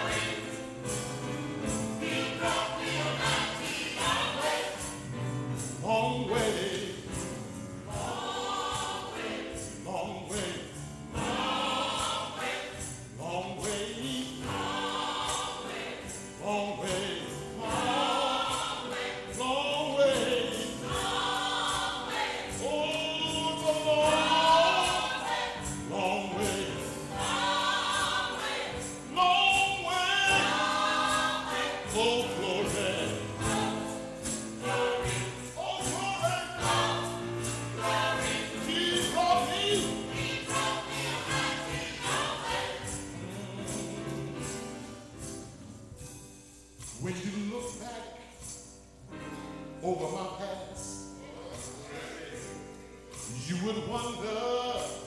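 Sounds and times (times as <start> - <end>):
choir singing gospel: 0.0 - 46.1, 46.8 - 55.0.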